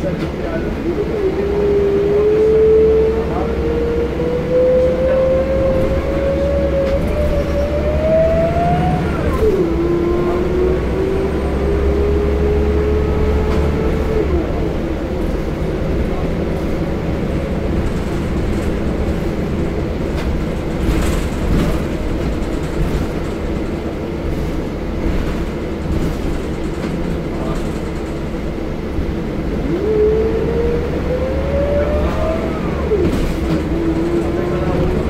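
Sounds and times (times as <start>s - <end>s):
bus engine low rumble: 0.0s - 35.0s.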